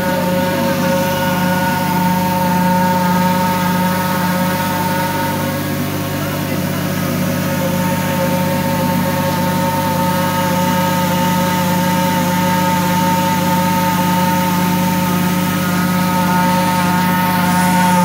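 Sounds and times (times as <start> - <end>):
grinding machinery running: 0.0 - 18.0.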